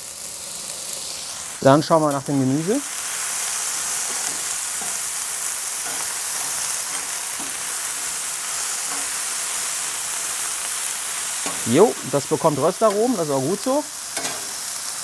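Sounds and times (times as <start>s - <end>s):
vegetables sizzling on a griddle: 0.0s - 15.0s.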